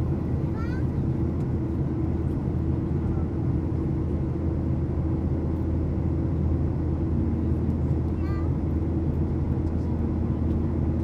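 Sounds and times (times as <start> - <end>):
airplane cabin drone: 0.0 - 11.0
constant hum: 0.0 - 11.0.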